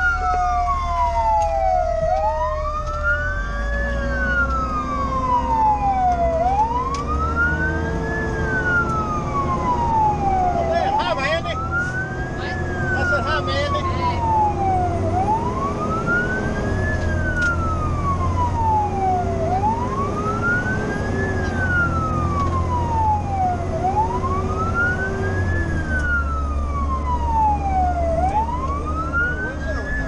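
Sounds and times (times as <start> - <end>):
mechanical siren wailing: 0.0 - 30.0
truck engine drone: 0.0 - 30.0.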